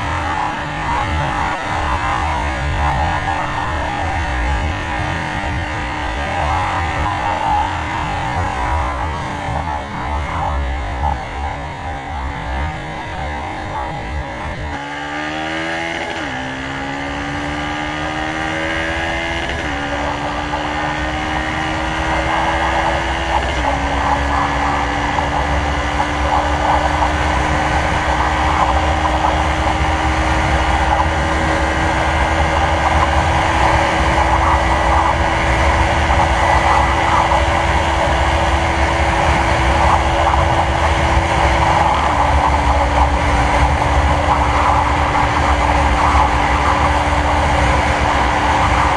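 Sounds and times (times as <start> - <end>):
motorcycle engine at full throttle: 0.0 - 48.9
wind noise: 0.0 - 48.9.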